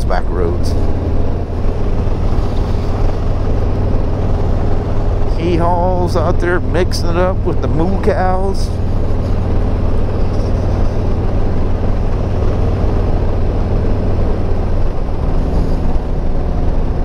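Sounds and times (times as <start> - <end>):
motorcycle engine running: 0.0 - 17.0
wind rush: 0.5 - 17.0.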